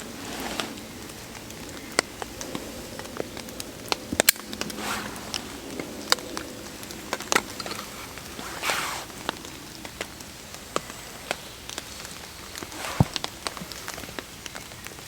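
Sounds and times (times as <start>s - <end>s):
rain hissing on tarp: 0.0s - 15.0s
raindrops tapping fabric: 0.0s - 15.0s.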